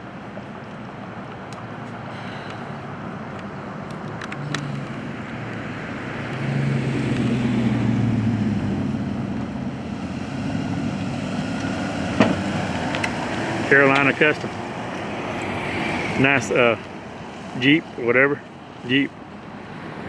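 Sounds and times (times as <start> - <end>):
highway traffic passing: 0.0 - 20.0
vehicle engine hum: 0.0 - 20.0.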